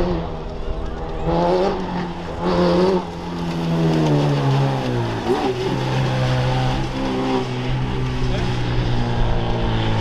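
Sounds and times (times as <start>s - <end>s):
race car engine running: 0.0s - 10.0s.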